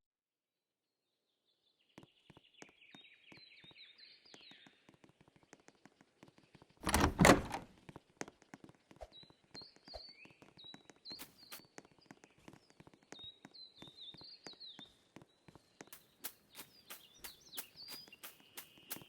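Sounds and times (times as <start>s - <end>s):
small birds chirping: 1.5s - 7.6s, 8.4s - 19.0s.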